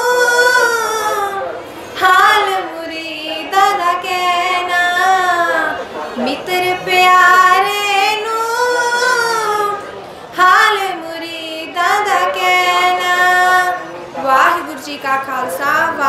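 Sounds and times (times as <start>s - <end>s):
woman singing a hymn: 0.0s - 16.0s.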